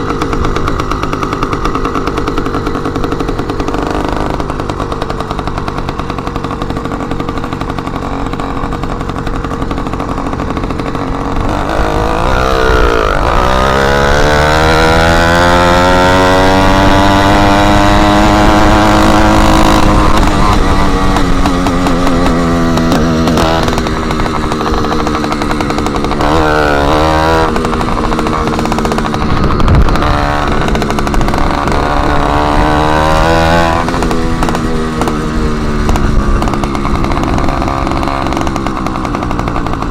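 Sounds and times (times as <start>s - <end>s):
motorized bicycle engine revving: 0.0s - 39.9s.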